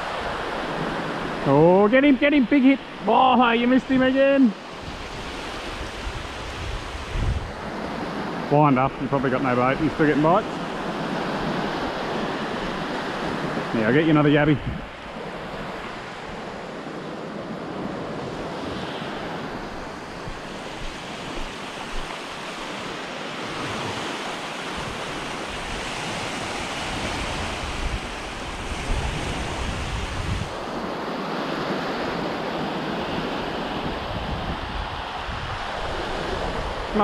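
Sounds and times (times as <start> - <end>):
small waves washing ashore: 0.0 - 37.0
wind buffeting microphone: 3.6 - 31.0, 32.1 - 37.0.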